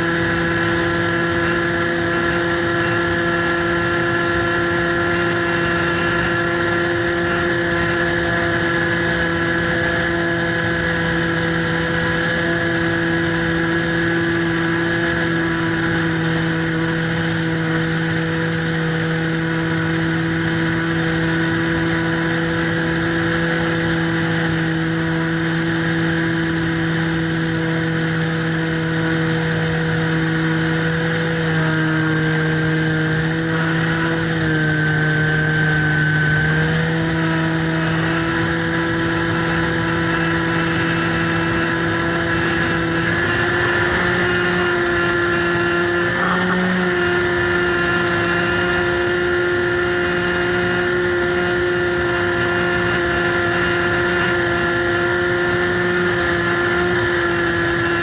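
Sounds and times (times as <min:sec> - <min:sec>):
model plane motor droning: 0:00.0 - 0:58.0.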